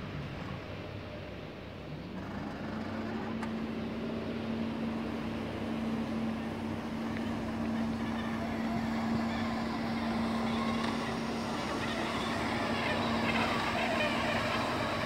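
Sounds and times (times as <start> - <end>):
floor scrubber motor hum: 2.2 - 15.0.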